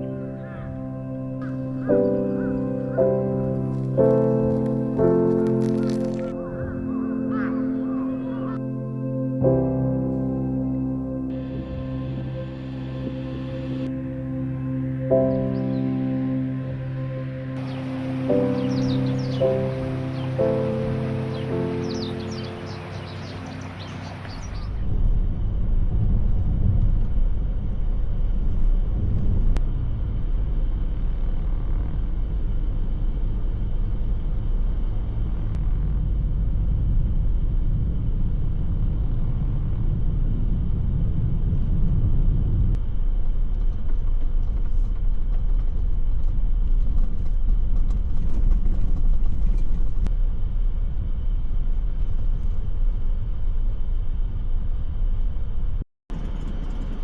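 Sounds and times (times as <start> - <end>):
car engine and road noise rumble: 10.1 - 57.0.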